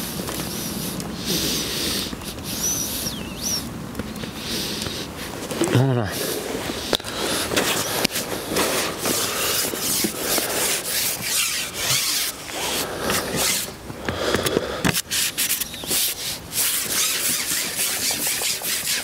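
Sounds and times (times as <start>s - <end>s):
rough rubbing and scraping: 0.0s - 13.8s, 14.9s - 19.0s.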